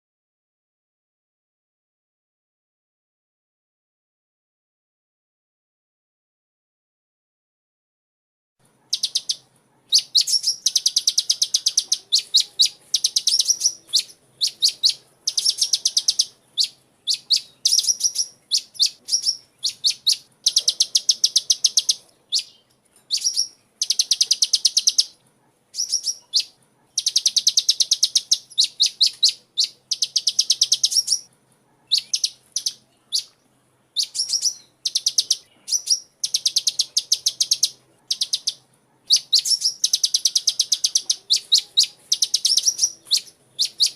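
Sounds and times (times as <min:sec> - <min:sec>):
bird chirping: 0:08.6 - 0:43.9.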